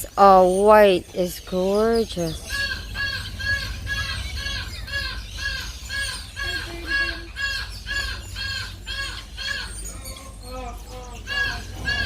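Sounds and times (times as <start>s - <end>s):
bird squawking: 0.0s - 12.0s.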